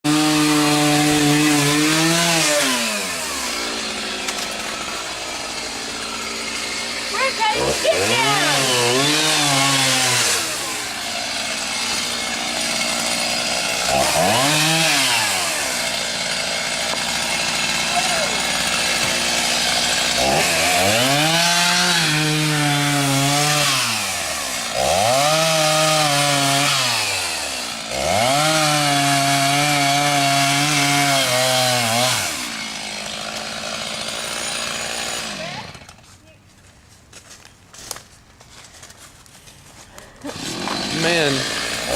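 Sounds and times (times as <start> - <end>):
chainsaw revving: 0.0 - 36.0, 40.2 - 41.9.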